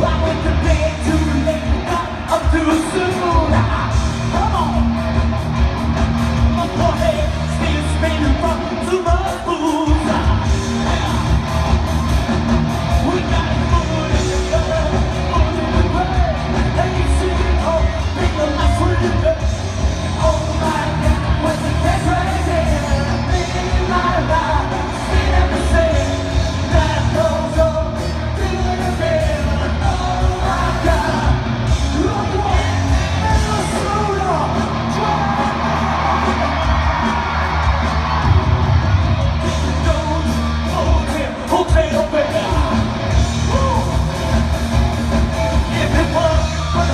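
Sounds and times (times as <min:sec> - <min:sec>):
live concert music with bass beat: 0:00.0 - 0:46.9.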